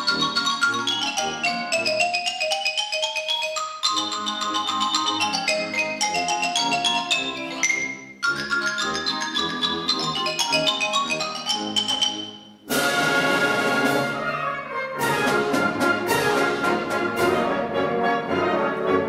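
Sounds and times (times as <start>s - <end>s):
marimbas played fast: 0.0s - 17.5s.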